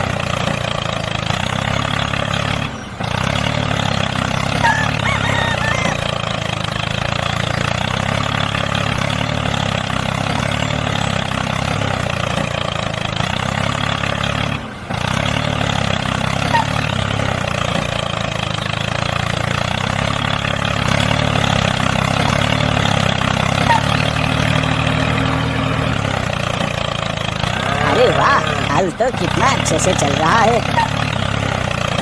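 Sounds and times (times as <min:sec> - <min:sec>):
small tractor engine running: 0:00.0 - 0:32.0.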